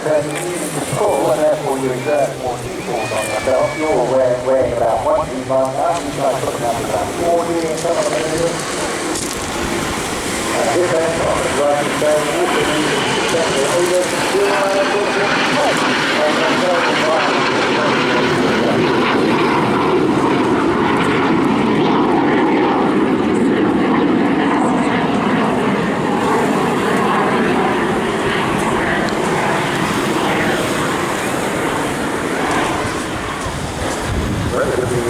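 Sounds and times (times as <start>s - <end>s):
jet flying past: 0.0s - 35.0s.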